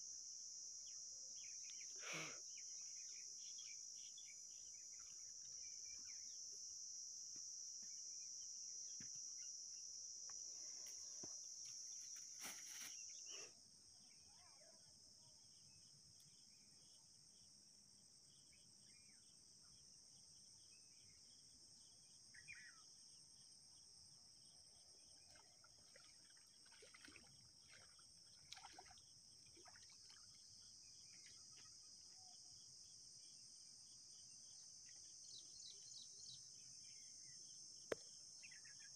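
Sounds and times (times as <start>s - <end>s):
insects droning: 0.0s - 38.9s
faint chirps: 0.7s - 17.5s, 20.6s - 23.0s, 24.9s - 38.9s.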